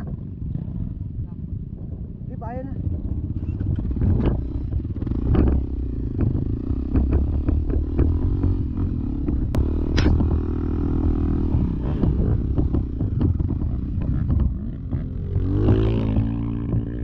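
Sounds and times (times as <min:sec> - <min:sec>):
dirt bike engine running: 0:00.0 - 0:17.0
bike clicking and knocking: 0:03.2 - 0:17.0.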